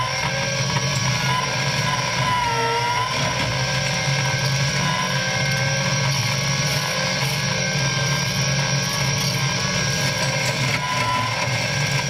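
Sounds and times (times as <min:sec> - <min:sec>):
hydraulic whine: 0:00.0 - 0:12.0
low engine drone: 0:00.0 - 0:12.0.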